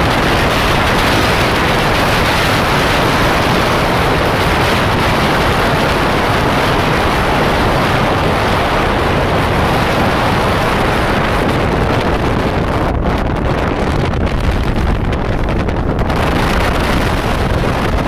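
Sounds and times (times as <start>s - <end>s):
wind blasting across microphone: 0.0s - 18.0s.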